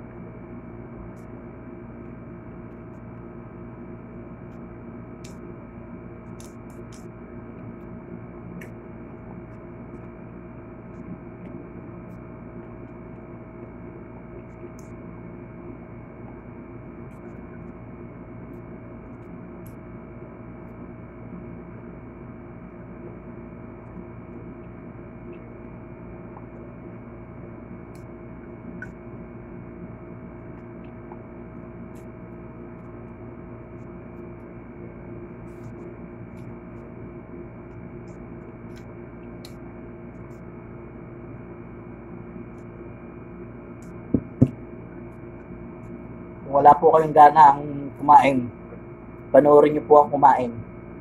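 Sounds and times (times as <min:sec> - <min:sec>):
steady multi-tone hum: 0:00.0 - 0:51.0.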